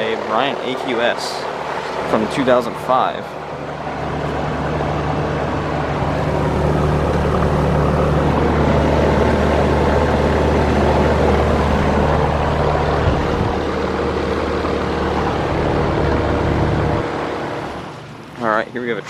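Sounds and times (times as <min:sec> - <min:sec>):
compressor hum: 0:00.0 - 0:19.0
condenser fan rushing: 0:00.0 - 0:19.0.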